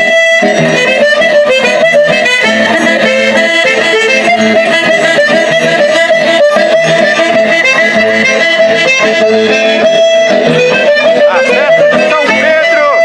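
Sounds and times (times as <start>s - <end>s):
accordion holding long tones: 0.0s - 13.0s
plucked guitar strings: 0.0s - 13.0s.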